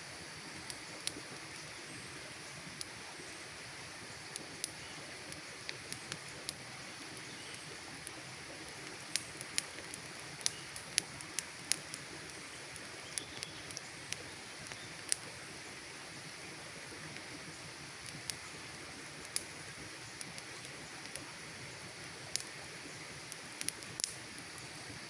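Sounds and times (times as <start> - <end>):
campfire crackling: 0.0 - 25.0
soft hiss of fire: 0.0 - 25.0.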